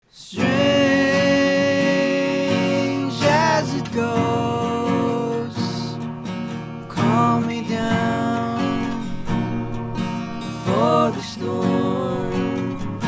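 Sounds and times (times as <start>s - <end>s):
song with guitar: 0.0s - 13.0s.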